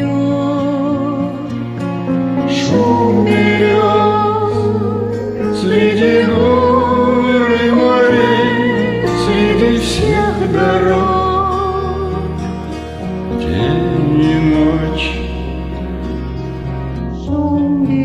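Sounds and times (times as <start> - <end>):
slow song: 0.0 - 18.0
wordless vocal notes: 0.0 - 18.0.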